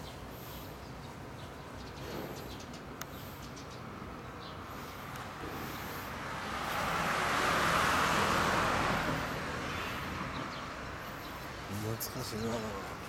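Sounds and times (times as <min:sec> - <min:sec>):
vehicle passing on road: 0:01.9 - 0:13.0.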